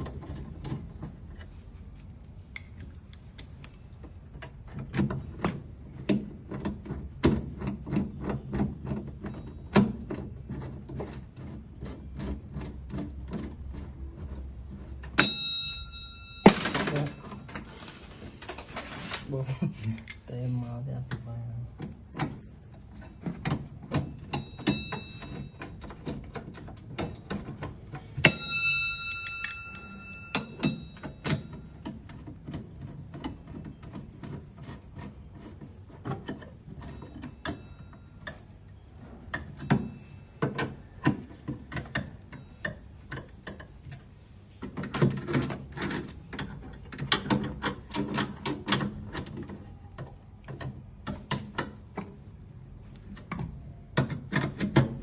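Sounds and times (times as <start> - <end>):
tools clicking and knocking: 0.0 - 17.7, 19.6 - 55.0.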